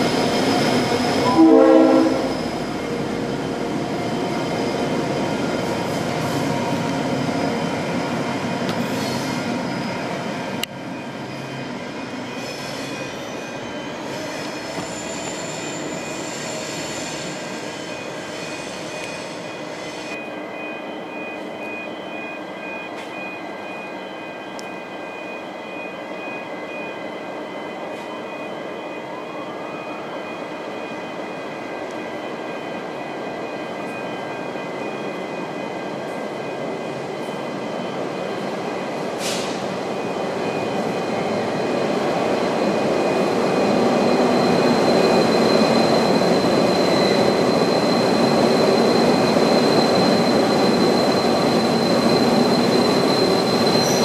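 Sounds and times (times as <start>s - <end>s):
diesel locomotive passing: 0.0s - 22.8s, 29.8s - 54.0s.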